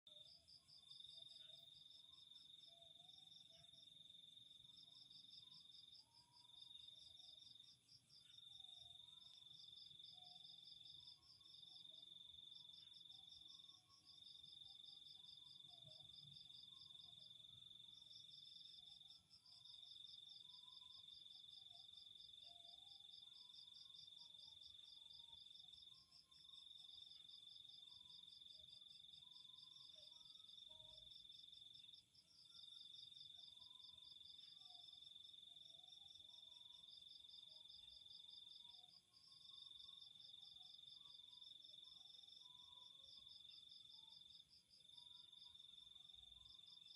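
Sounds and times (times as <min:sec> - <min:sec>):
soft lower insect calls: 0:00.1 - 0:46.9.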